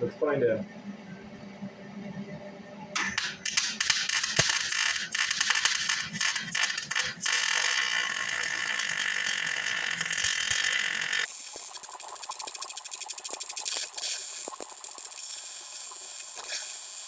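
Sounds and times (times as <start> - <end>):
welding arc crackling and hissing: 3.0 - 17.0.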